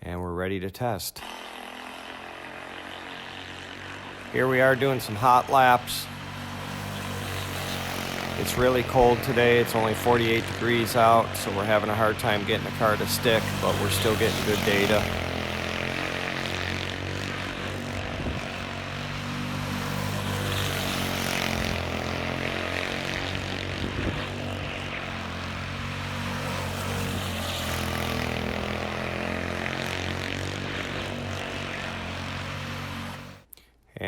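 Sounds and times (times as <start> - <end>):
race car engine buzzing: 1.2 - 33.5.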